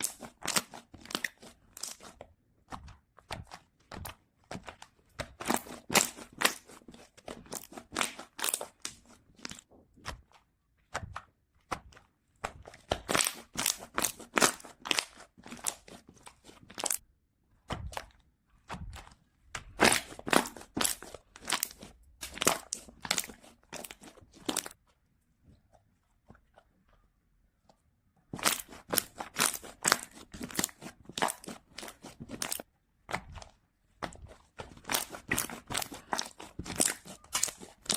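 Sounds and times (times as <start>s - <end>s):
slime clicking and popping: 0.0s - 16.0s, 16.6s - 17.0s, 17.6s - 24.8s, 28.3s - 37.9s.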